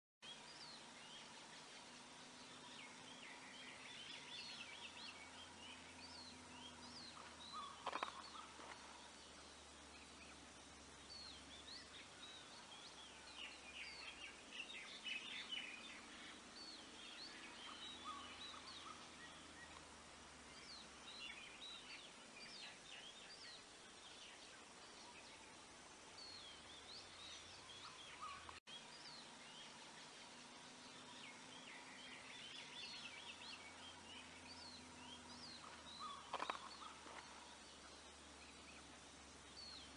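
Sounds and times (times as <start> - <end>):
low steady background hum: 0.2 - 39.9
small birds chirping: 0.2 - 39.9.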